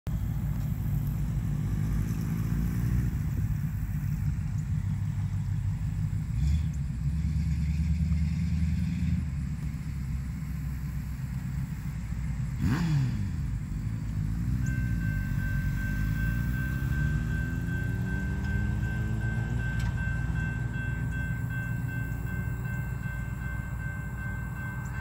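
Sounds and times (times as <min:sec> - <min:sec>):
diesel locomotive rumble: 0:00.1 - 0:25.0
train passing close: 0:00.1 - 0:25.0.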